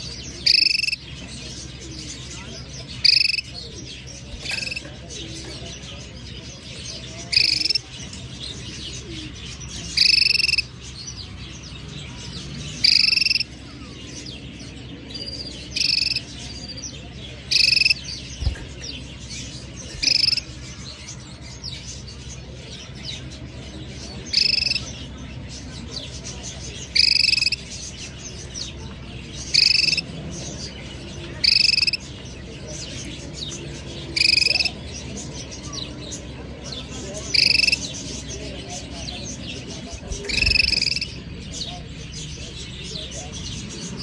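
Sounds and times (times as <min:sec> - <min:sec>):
canary calling: 0:00.0 - 0:18.8, 0:19.4 - 0:20.7, 0:24.2 - 0:25.1, 0:26.8 - 0:32.3, 0:32.9 - 0:35.8, 0:37.1 - 0:44.0.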